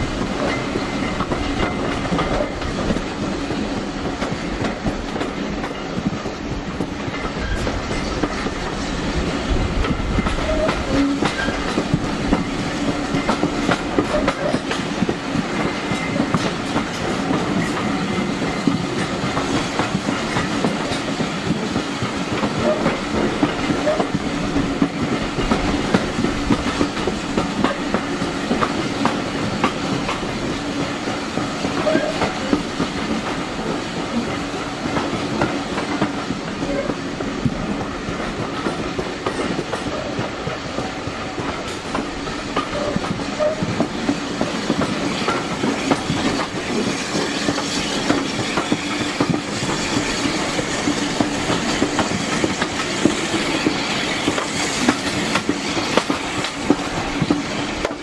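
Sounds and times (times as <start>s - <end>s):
railway coach rumbling: 0.0s - 58.0s.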